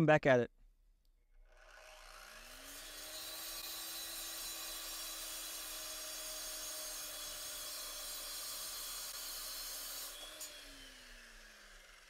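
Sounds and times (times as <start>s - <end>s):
concrete saw cutting: 1.4s - 12.0s.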